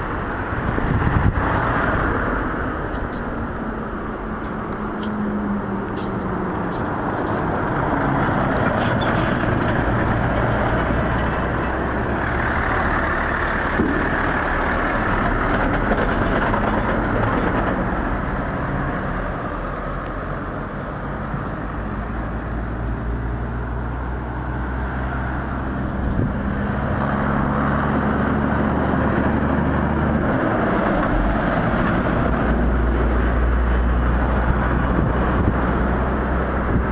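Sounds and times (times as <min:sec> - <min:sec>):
cars driving past: 0:00.0 - 0:36.9
low engine hum: 0:00.0 - 0:36.9.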